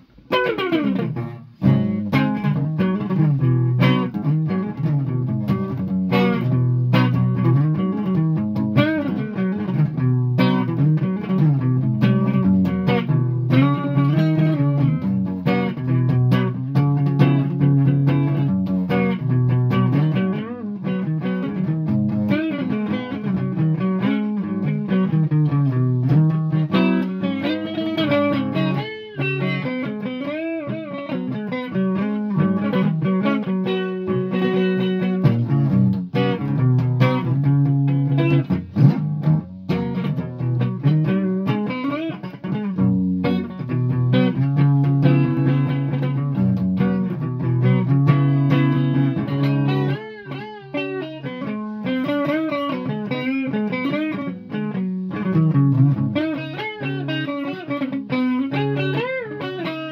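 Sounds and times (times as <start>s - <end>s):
electric guitar riff: 0.0s - 59.9s.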